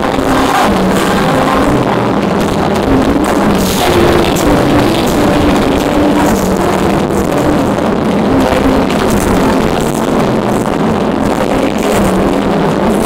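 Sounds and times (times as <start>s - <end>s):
crowd noise: 0.0s - 13.0s
distorted live pop concert music: 0.0s - 13.0s.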